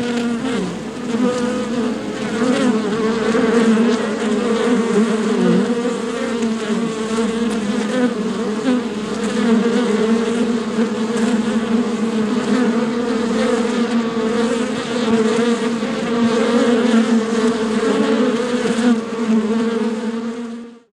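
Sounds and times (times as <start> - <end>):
swarm of bees buzzing: 0.0 - 20.9.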